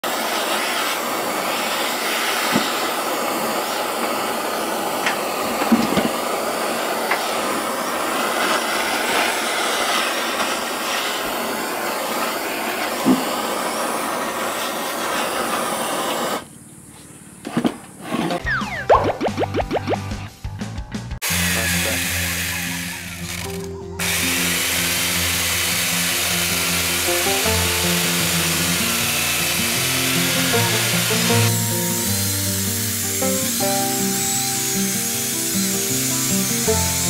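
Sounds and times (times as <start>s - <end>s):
blowtorch flame hissing: 0.0s - 16.6s, 21.2s - 37.0s.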